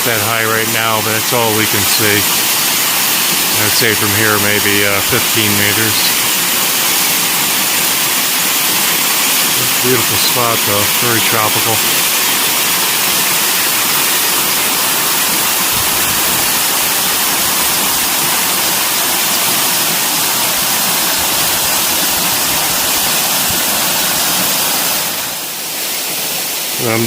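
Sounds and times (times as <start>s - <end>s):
waterfall pouring into pool: 0.0s - 27.0s.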